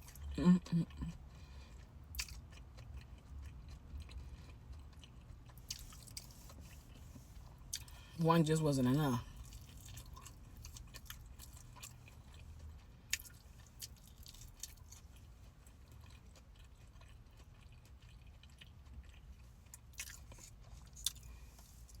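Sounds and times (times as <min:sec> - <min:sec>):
person chewing: 0:00.0 - 0:08.2, 0:09.2 - 0:22.0.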